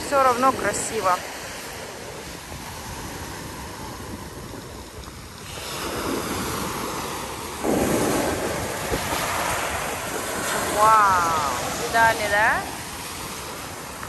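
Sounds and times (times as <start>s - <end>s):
surf washing onto pebble beach: 0.0s - 14.0s
wave crashing: 0.0s - 14.0s.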